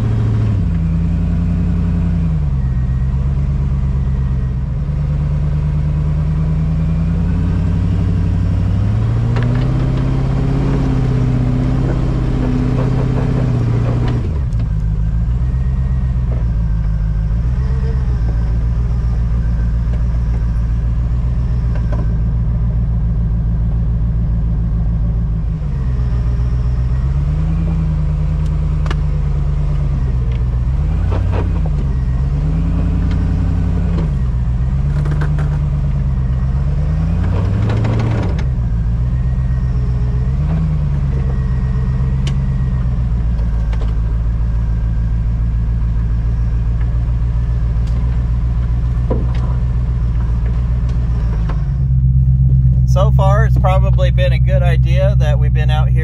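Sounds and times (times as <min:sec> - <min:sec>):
engine revving at low speed: 0:00.0 - 0:56.0.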